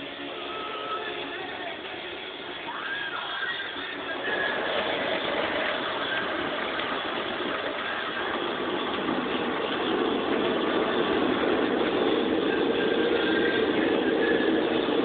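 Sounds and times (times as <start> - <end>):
car wash machinery rushing: 0.0 - 15.0.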